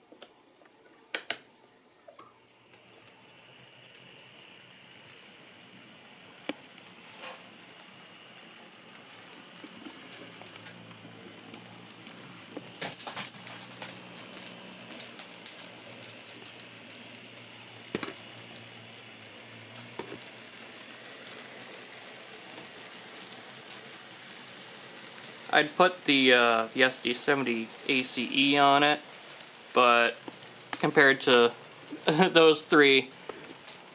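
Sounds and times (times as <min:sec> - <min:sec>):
faint model train motor hum: 0:00.0 - 0:33.9.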